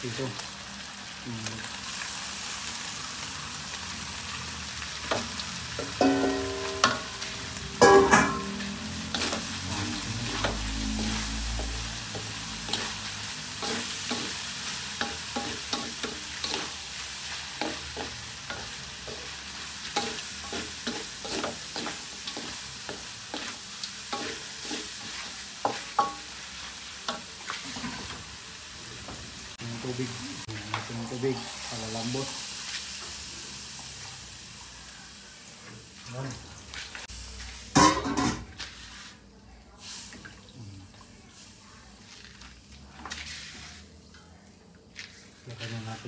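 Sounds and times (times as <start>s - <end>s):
meat sizzling in a wok: 0.0s - 43.9s.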